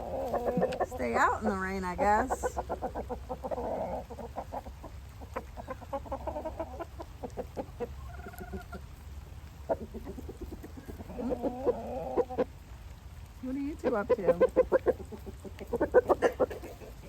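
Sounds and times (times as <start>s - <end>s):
rooster clucking: 0.0s - 9.0s, 9.6s - 12.6s, 13.7s - 17.0s.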